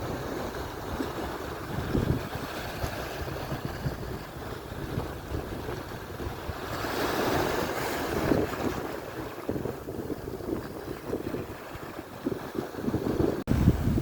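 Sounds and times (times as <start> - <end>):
ocean waves breaking: 0.0 - 14.0
wind buffeting microphone: 0.0 - 14.0.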